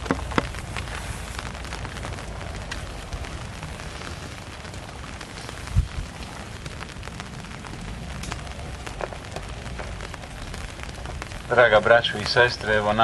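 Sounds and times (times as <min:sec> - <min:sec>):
low rumble: 0:00.0 - 0:13.0
raindrops ticking: 0:00.0 - 0:13.0
steady rain: 0:00.0 - 0:13.0.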